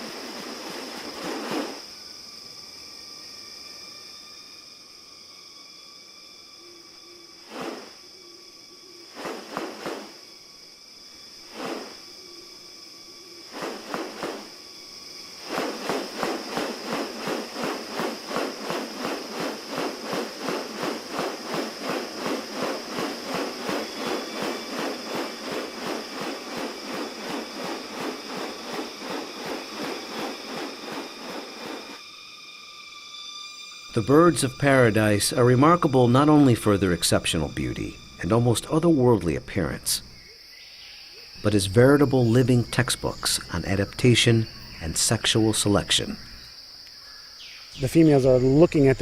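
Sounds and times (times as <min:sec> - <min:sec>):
insects buzzing: 0:00.0 - 0:49.0.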